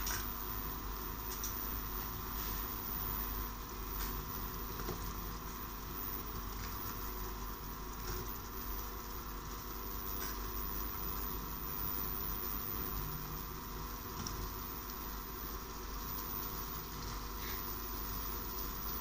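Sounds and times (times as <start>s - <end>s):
cooling fan hum: 0.0s - 19.0s
food frying in oil: 0.0s - 19.0s.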